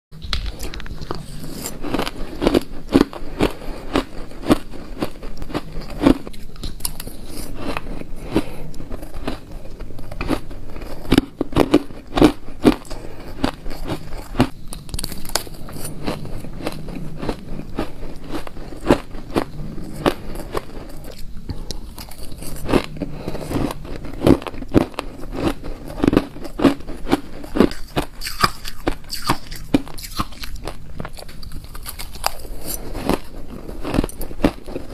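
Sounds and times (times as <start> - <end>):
crunching shaved ice: 0.6 - 21.2, 21.8 - 34.9.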